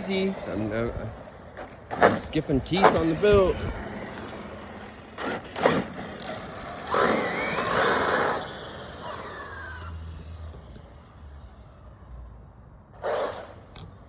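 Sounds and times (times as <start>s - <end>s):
rc truck motor whine: 0.0s - 14.0s.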